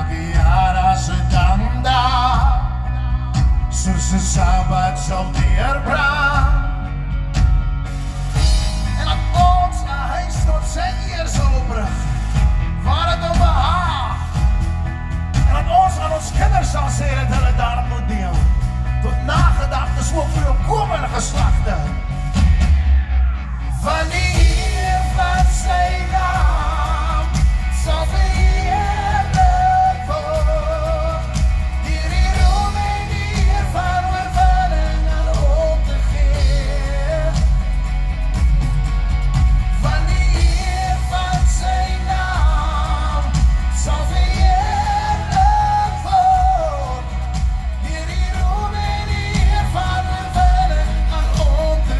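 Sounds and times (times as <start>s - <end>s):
person singing with vibrato: 0.0s - 7.1s, 8.3s - 22.4s, 23.6s - 51.9s
amplified band music: 0.0s - 51.9s.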